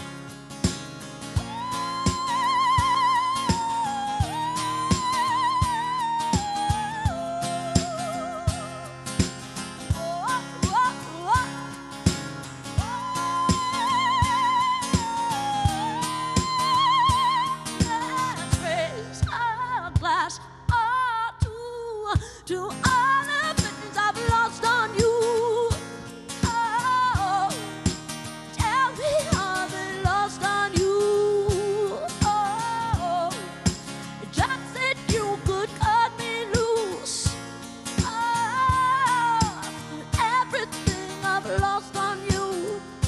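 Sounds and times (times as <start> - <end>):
acoustic guitar: 0.0 - 43.0
person singing with vibrato: 1.4 - 9.2, 9.9 - 33.6, 34.2 - 37.4, 38.0 - 43.0.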